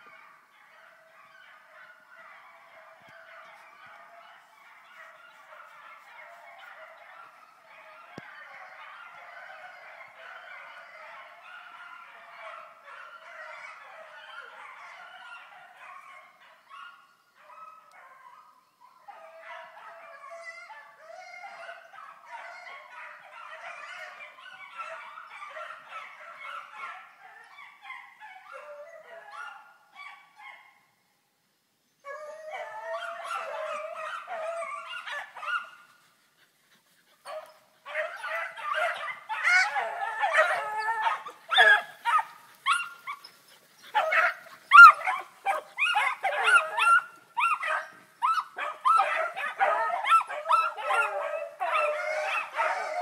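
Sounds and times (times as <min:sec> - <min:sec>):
pack of dogs baying: 0:00.0 - 0:18.4, 0:19.0 - 0:30.3, 0:32.1 - 0:53.0.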